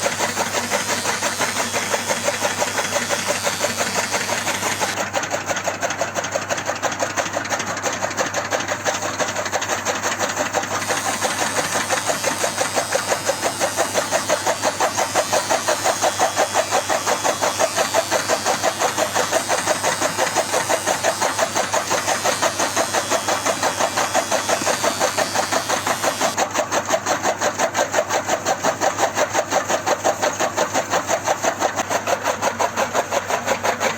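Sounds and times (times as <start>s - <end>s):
small motor chugging: 0.0s - 33.9s.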